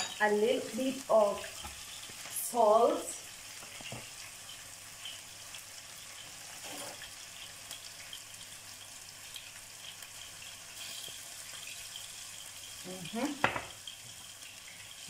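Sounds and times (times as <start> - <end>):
onions sizzling in a frying pan: 0.0 - 15.0.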